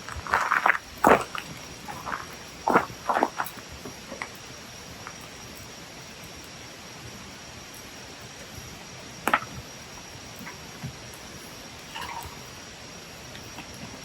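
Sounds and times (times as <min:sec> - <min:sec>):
campfire hissing and crackling: 0:00.0 - 0:14.0.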